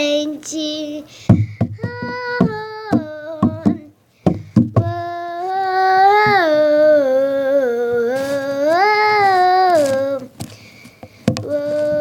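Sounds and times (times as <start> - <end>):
girl singing wordless vowels: 0.0 - 12.0.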